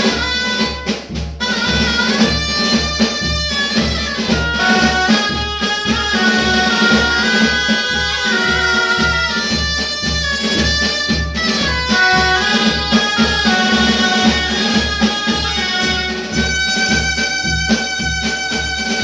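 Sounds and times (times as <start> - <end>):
bass drum and snare: 0.0 - 19.0
shrill double-reed pipes melody: 0.0 - 19.0.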